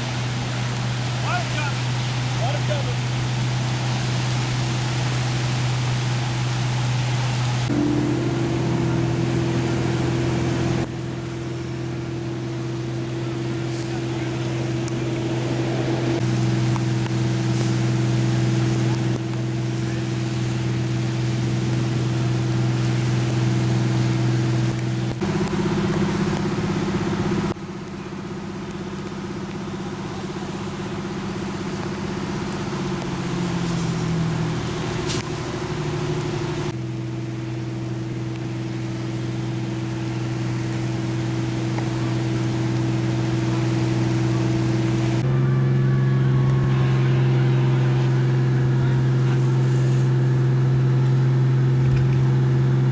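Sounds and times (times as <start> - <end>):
fire truck engine humming: 0.0 - 52.9
water noise: 0.0 - 52.9.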